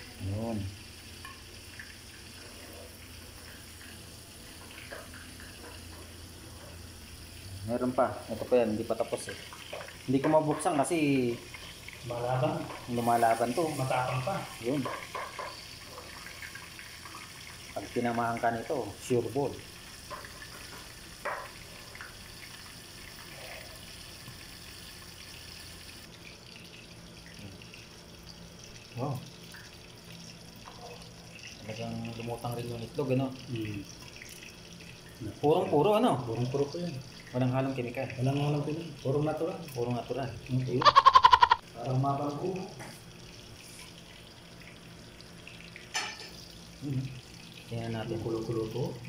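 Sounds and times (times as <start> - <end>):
fish frying in oil: 0.0 - 49.0.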